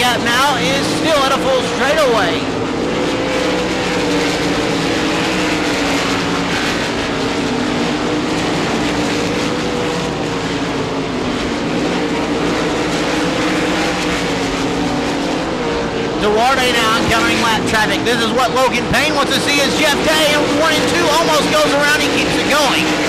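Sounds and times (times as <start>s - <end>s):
racing car engines at high revs: 0.0s - 23.0s.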